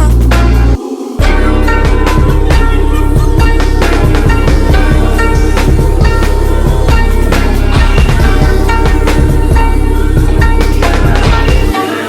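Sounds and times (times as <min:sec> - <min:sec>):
instrumental hip-hop beat: 0:00.0 - 0:12.0.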